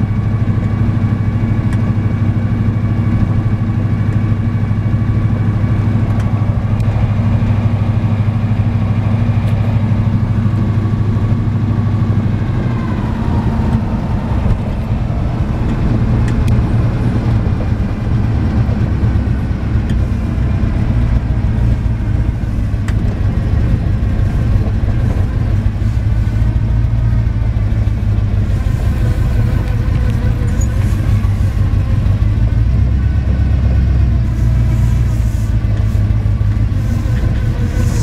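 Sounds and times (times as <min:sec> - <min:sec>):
pickup engine low rumble: 0:00.0 - 0:38.0.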